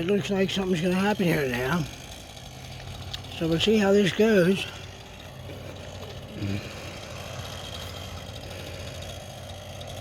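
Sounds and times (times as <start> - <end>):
chainsaw idling: 0.0 - 10.0.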